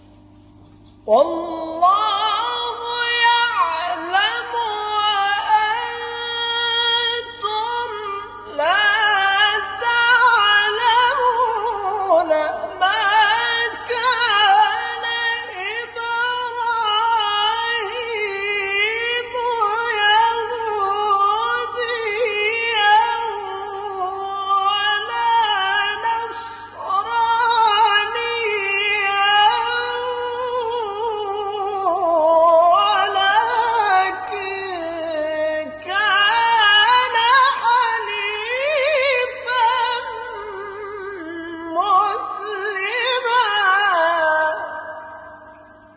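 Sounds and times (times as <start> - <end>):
person reciting melodically: 1.0 - 45.9.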